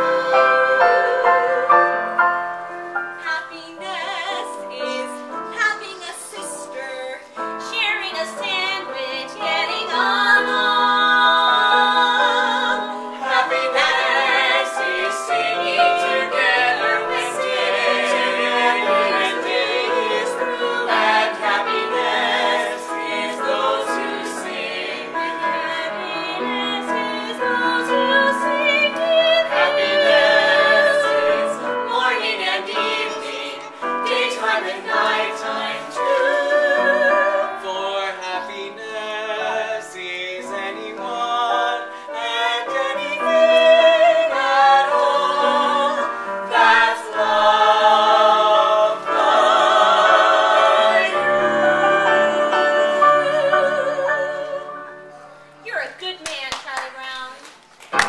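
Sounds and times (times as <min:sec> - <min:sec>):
group singing in harmony: 0:00.0 - 0:55.6.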